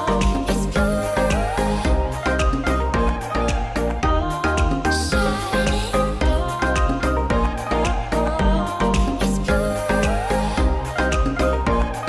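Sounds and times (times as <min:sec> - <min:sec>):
music with drumbeat and bass: 0:00.0 - 0:12.0.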